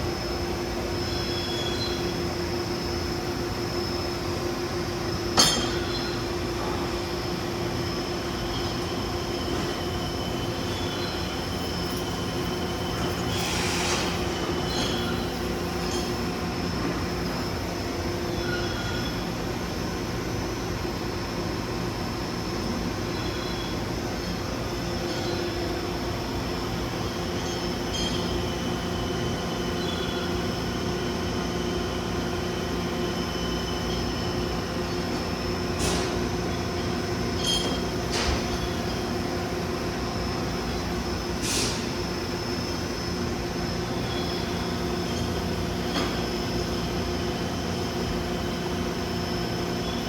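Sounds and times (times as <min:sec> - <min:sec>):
machine hum and whine: 0:00.0 - 0:50.0.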